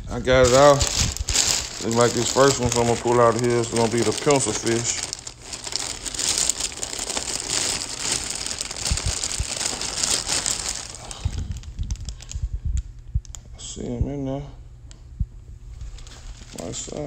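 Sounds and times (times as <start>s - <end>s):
plastic bag crinkling: 0.0s - 12.4s, 15.8s - 17.0s.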